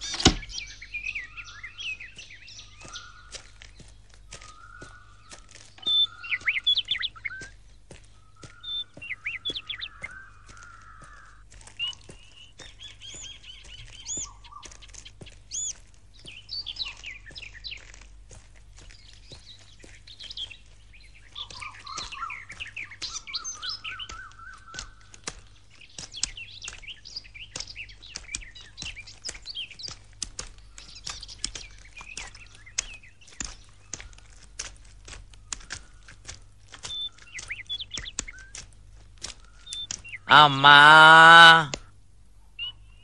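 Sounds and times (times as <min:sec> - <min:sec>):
birds chirping and calling: 0:00.0 - 0:41.8.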